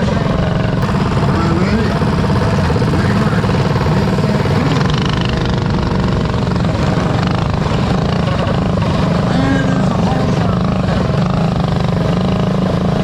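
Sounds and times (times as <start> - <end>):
mini bike engines racing: 0.0 - 13.0.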